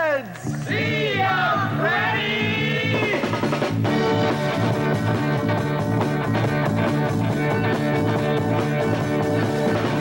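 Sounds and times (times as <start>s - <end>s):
upbeat rock music: 0.0s - 10.0s
electric guitar: 0.3s - 10.0s
bass line: 0.4s - 10.0s
drum beat: 0.6s - 10.0s.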